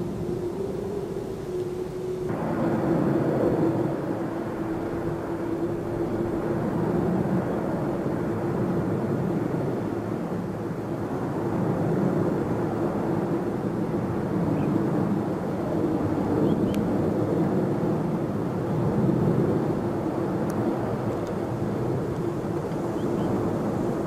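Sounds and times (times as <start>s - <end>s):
hum: 0.0s - 24.0s
jet airliner engines rumbling: 0.0s - 24.0s.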